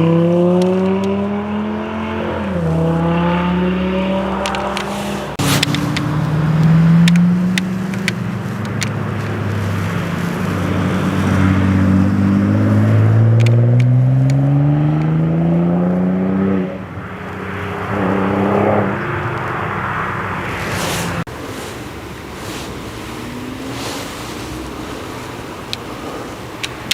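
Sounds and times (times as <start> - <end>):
car engine accelerating hard: 0.0 - 26.9.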